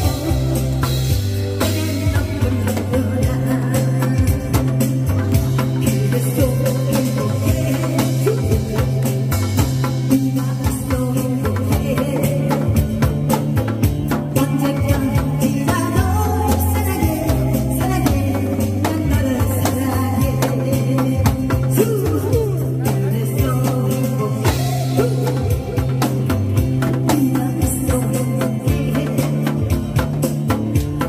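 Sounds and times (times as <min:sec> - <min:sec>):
loud music with drum beat: 0:00.0 - 0:31.0
pulsing bass line: 0:00.0 - 0:31.0.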